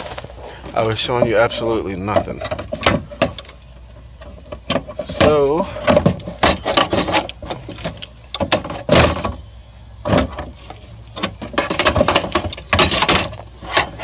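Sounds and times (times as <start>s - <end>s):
metallic clanks and rattles: 0.0s - 14.0s.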